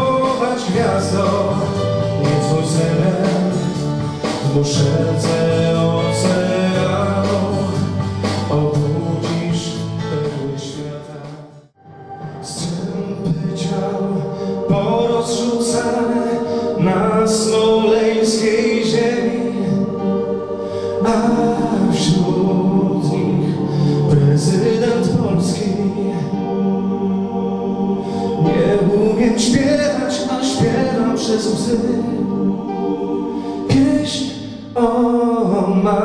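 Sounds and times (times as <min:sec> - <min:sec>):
man singing into a microphone: 0:00.0 - 0:11.6, 0:12.2 - 0:20.2, 0:20.8 - 0:26.5, 0:28.3 - 0:32.8, 0:33.6 - 0:36.0.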